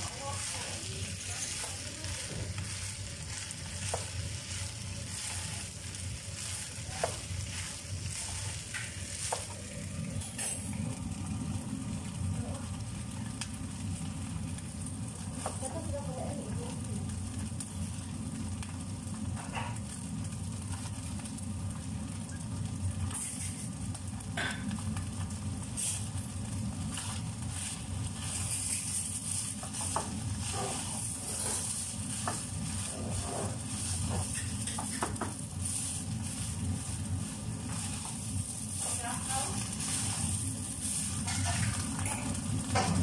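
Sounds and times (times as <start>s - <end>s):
food sizzling in a pot: 0.0s - 43.0s.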